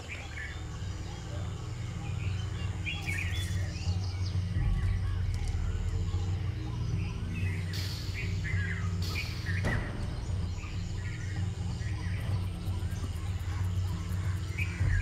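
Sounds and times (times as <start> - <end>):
birds chirping: 0.0 - 15.0
steady low drone: 0.0 - 15.0.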